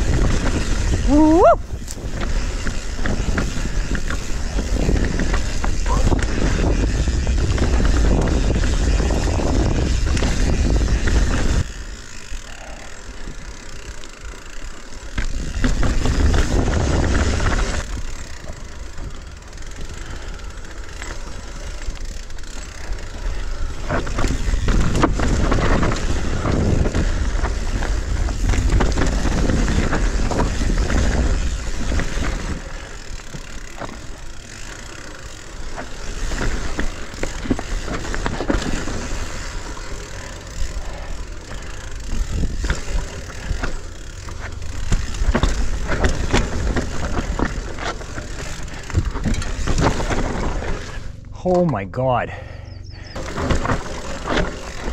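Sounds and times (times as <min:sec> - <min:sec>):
wind rumbling on microphone: 0:00.0 - 0:13.8, 0:15.0 - 0:19.4, 0:23.1 - 0:51.1
bike rattling over bumps: 0:00.0 - 0:51.4, 0:52.7 - 0:54.9
bike tyres on dirt and rock: 0:00.0 - 0:54.9.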